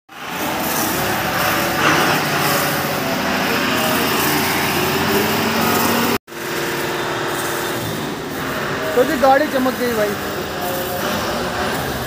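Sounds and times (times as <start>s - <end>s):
pressure washer pump droning: 0.1s - 12.0s
water jet hissing on metal: 0.1s - 12.0s.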